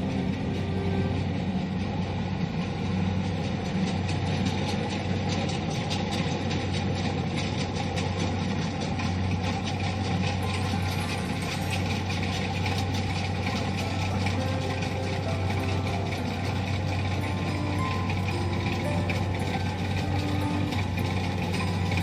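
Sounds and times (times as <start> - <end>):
diesel engine drone: 0.0 - 22.0
rapid mechanical clatter: 0.0 - 22.0.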